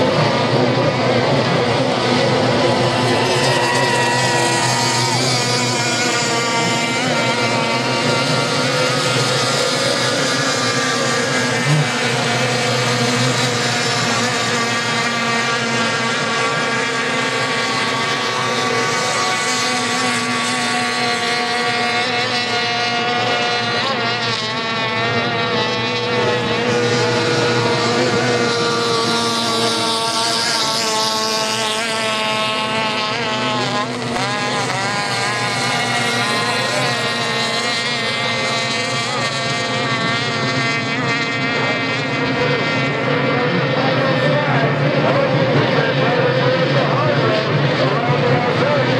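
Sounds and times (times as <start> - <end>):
racing outboard motors: 0.0 - 48.9.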